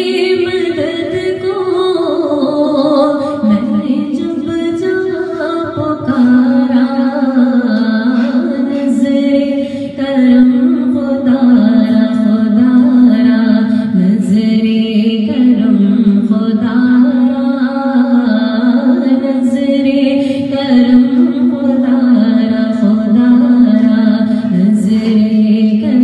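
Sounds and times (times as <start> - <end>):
woman singing devotional song: 0.0 - 26.0.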